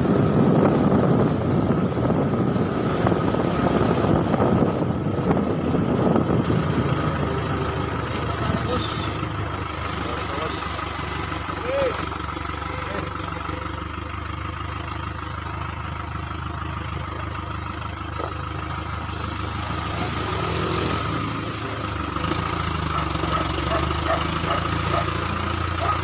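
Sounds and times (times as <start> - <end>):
truck engine hum: 0.0 - 26.0.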